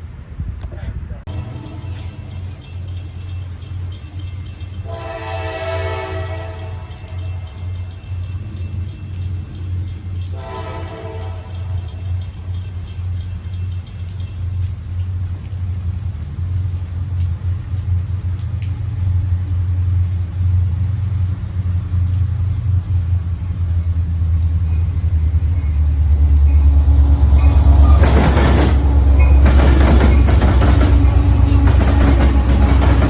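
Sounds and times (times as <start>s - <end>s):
train rumbling and passing: 0.0s - 33.0s.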